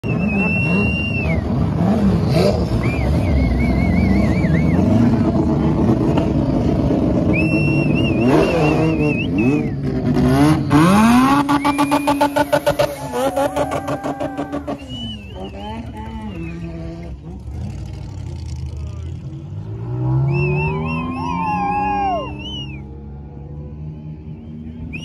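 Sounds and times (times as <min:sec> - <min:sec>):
race car engines passing: 0:00.0 - 0:25.0
engine revving sharply: 0:00.2 - 0:23.3.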